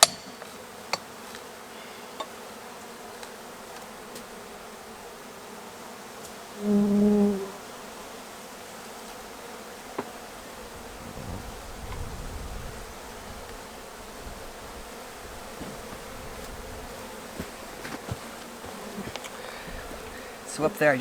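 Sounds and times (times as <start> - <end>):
bees buzzing: 0.0 - 21.0
bee buzzing close: 0.3 - 21.0.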